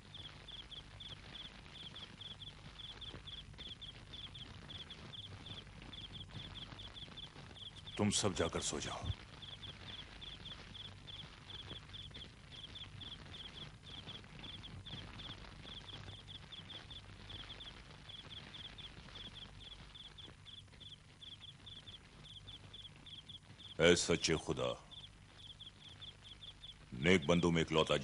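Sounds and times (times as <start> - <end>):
crickets chirping: 0.0 - 27.2
low steady hum: 0.0 - 28.0.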